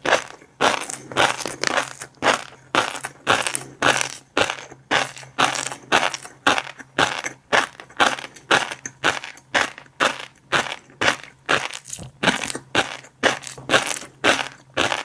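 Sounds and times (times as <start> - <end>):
close chewing with crackling pops: 0.0 - 15.0.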